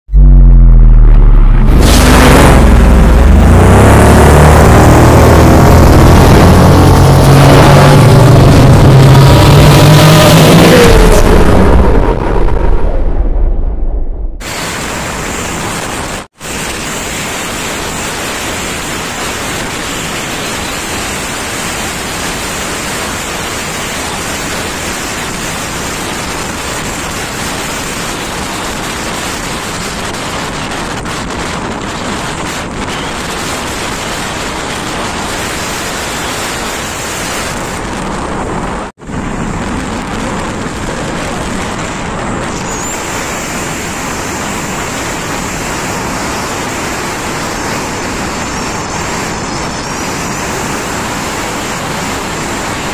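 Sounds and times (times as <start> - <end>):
wind rushing on microphone: 0.1 - 52.9.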